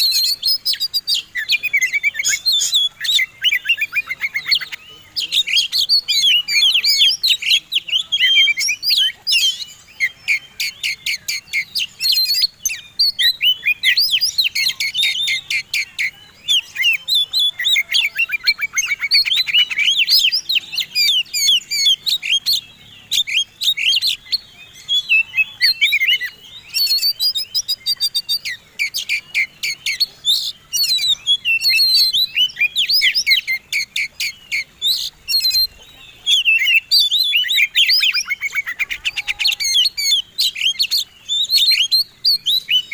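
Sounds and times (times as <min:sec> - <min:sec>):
magpie-robin singing: 0:00.0 - 0:42.9.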